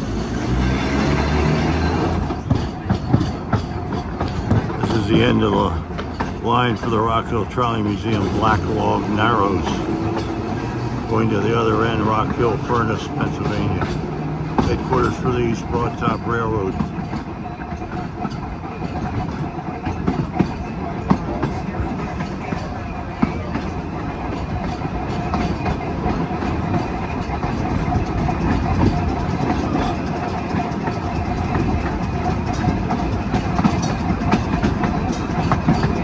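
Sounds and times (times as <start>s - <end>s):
steel wheels rumbling on rail: 0.0s - 36.0s.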